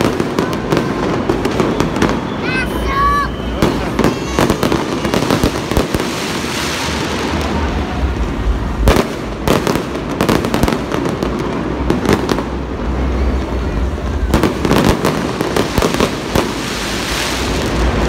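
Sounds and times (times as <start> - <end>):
fireworks crackling: 0.0 - 18.0
fireworks sharp bangs: 0.0 - 18.0.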